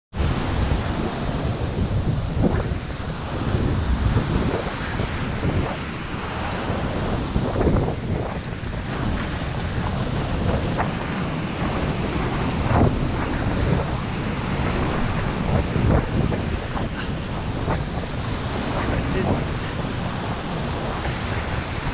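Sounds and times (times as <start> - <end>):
ocean surf on beach: 0.1 - 21.9
wind buffeting microphone: 0.1 - 21.9.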